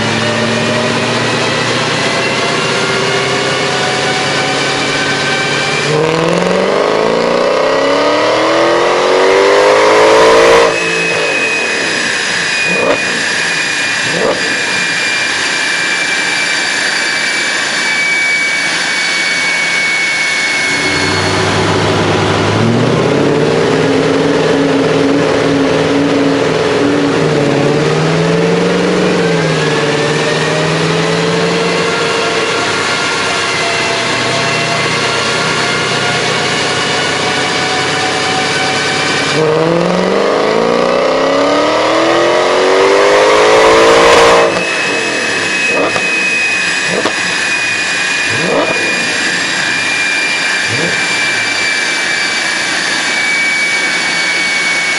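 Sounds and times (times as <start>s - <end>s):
car engine revving on a dyno: 0.0s - 54.9s
high steady whine: 0.0s - 54.9s.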